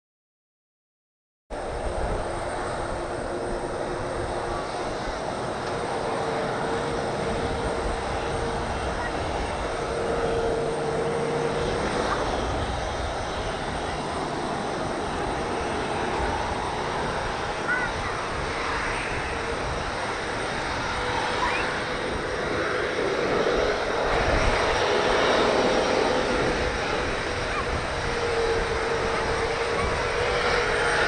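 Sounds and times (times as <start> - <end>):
jet engines running with whine: 1.5 - 31.0.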